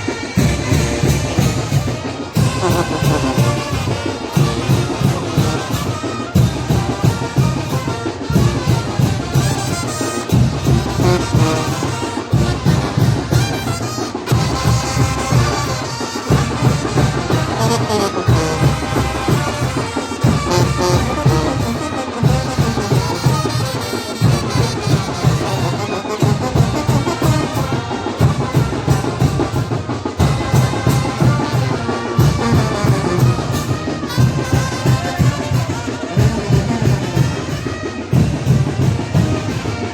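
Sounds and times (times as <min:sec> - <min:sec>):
brass band melody: 0:00.0 - 0:39.9
driving bass drum beat: 0:00.0 - 0:39.9.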